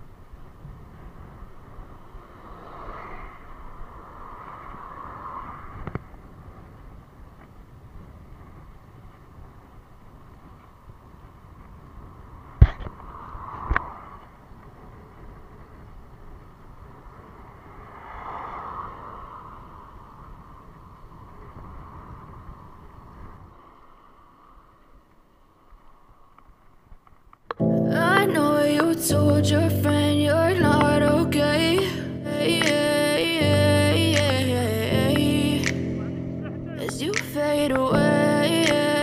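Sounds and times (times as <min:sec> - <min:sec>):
bicycle road noise on asphalt: 0:00.0 - 0:39.0
wind buffeting microphone: 0:00.0 - 0:39.0.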